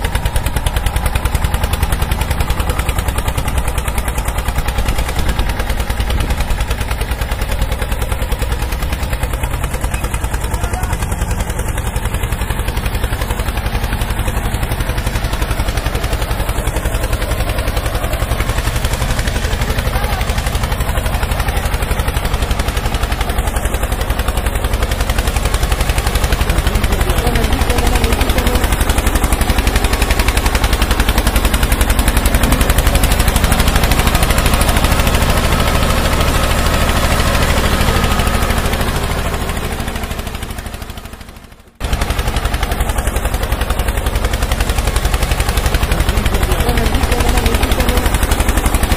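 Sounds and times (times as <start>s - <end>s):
engine popping rattle: 0.0s - 48.9s.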